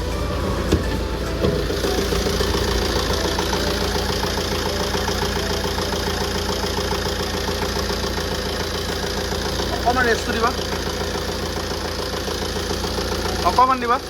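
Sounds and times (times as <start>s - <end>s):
diesel engine idling with clatter: 0.0s - 14.0s.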